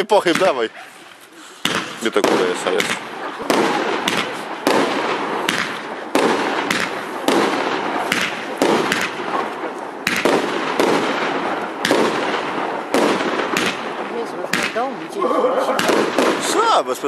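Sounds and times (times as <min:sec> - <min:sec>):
firework sharp bangs: 0:00.0 - 0:17.0
firework hiss: 0:00.9 - 0:14.8.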